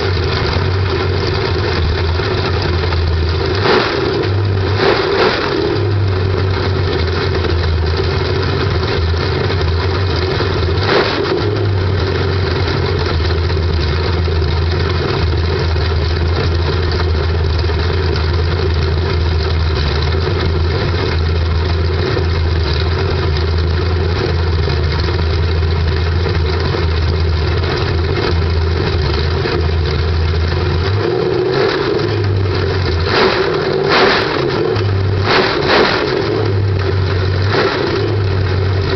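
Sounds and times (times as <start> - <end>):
car engine running: 0.0 - 38.9
engine throttle blips: 0.0 - 38.9.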